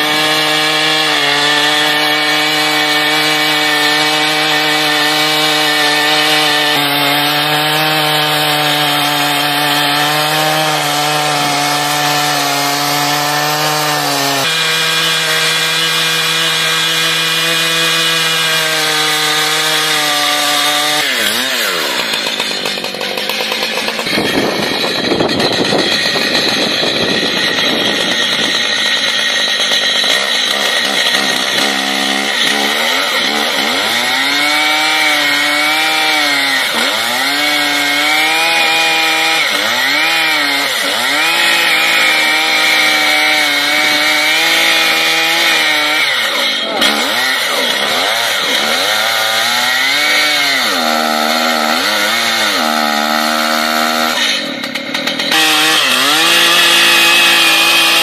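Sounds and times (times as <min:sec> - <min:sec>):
chainsaw cutting into log: 0:00.0 - 0:58.0.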